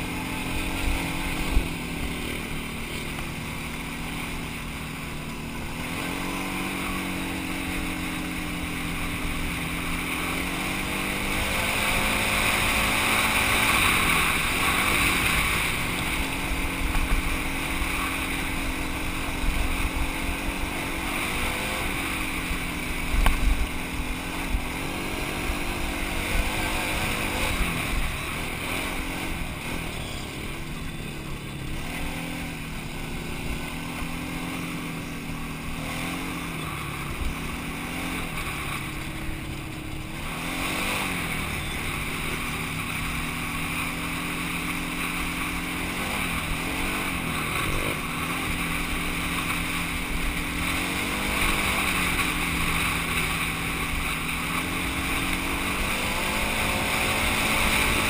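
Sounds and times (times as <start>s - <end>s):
quad engine running: 0.0s - 58.0s.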